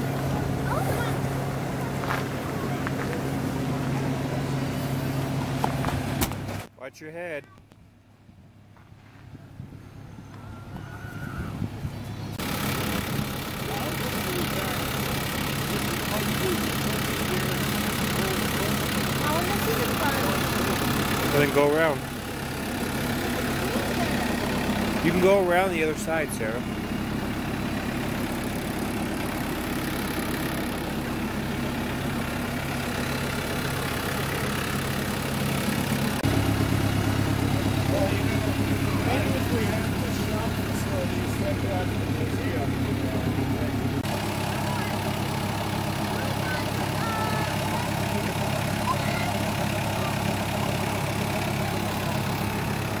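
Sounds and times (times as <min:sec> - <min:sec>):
engine humming: 0:00.0 - 0:53.0.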